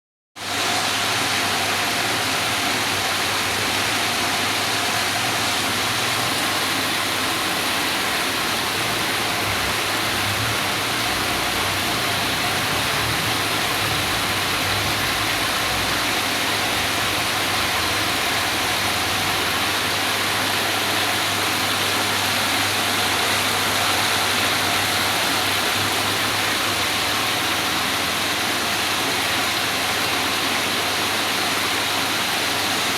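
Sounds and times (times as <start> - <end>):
fountain water splashing: 0.5 - 32.9.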